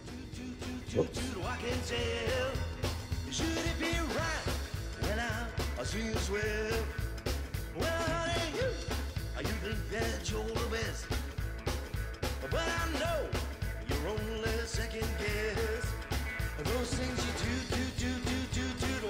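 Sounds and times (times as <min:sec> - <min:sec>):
rock and roll song with singing: 0:00.0 - 0:19.0
steady bass beat: 0:00.0 - 0:19.0.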